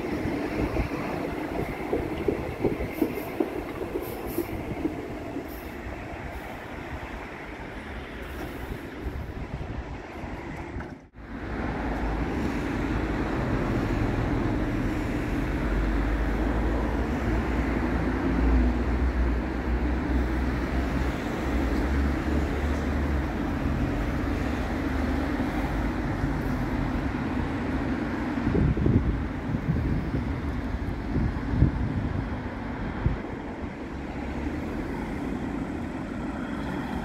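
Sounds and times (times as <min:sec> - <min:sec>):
passing traffic: 0:00.0 - 0:37.0
wind rumbling on microphone: 0:00.0 - 0:37.0.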